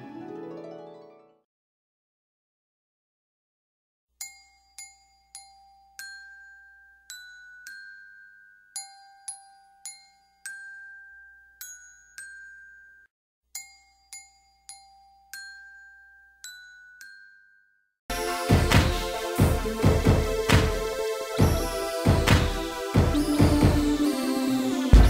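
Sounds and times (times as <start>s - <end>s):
bell-like chiming notes: 4.2s - 25.0s.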